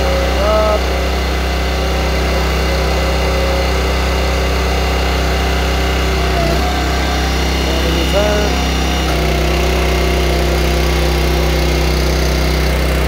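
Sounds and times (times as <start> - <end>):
small gas engine running: 0.0 - 13.0.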